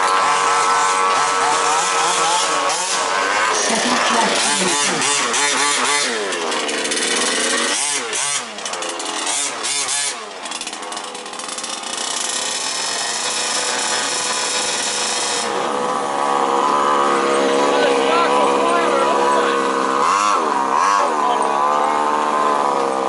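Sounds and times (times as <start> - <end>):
small petrol engines revving: 0.0 - 23.0.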